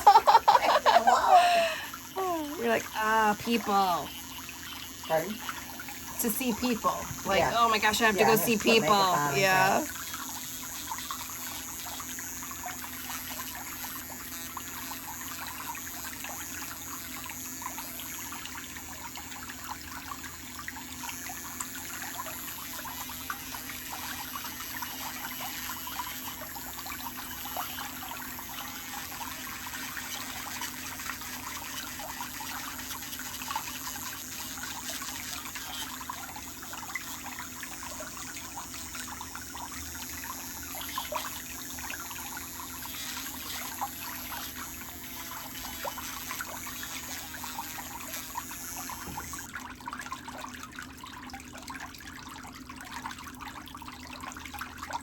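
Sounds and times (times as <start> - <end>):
water trickling and bubbling: 9.8 - 55.0
small water splashes and drips: 9.9 - 55.0.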